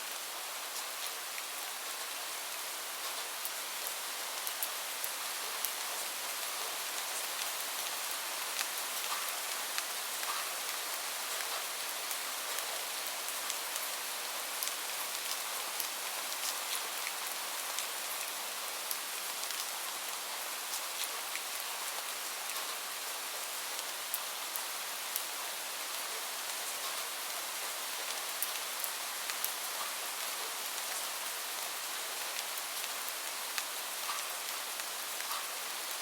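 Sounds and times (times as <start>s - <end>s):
steady rain hissing: 0.0s - 36.0s.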